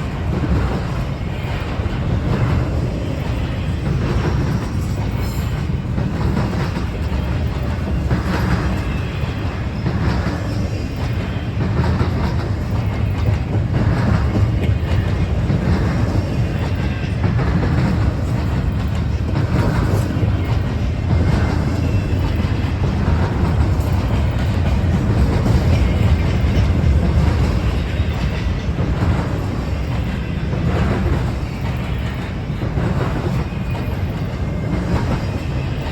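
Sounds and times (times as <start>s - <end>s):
rumble of train wheels on rail: 0.0s - 35.9s
wheels clacking over rail joints: 0.0s - 35.9s.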